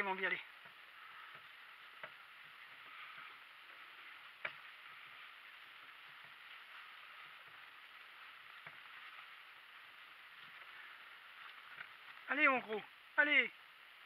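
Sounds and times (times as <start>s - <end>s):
cart rustling on dirt track: 0.0s - 14.0s.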